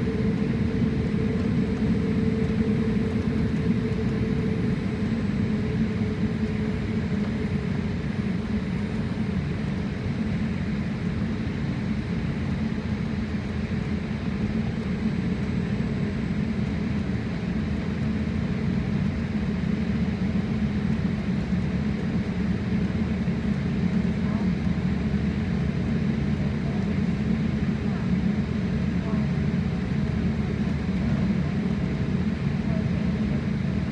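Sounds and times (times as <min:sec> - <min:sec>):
jet airliner cabin drone: 0:00.0 - 0:33.9.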